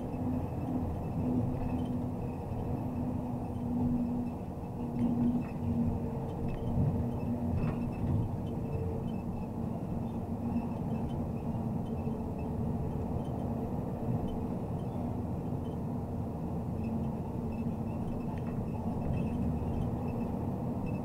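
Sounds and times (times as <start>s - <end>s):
diesel engine drone: 0.0s - 21.0s
road noise: 0.0s - 21.0s.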